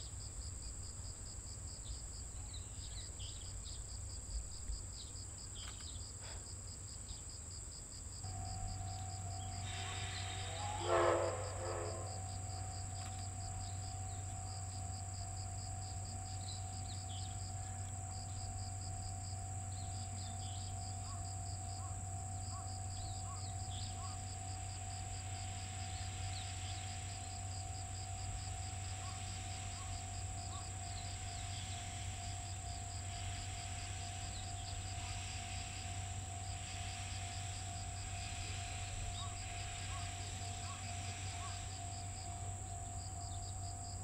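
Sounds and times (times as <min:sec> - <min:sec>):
insects chirping: 0:00.0 - 0:44.0
steady low hum: 0:08.0 - 0:44.0
steam locomotive hissing: 0:08.2 - 0:44.0.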